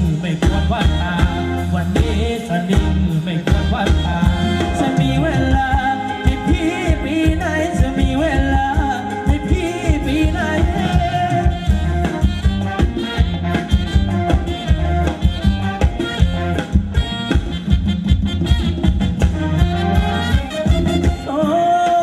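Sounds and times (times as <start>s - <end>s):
fast steady drum beat: 0.0s - 22.0s.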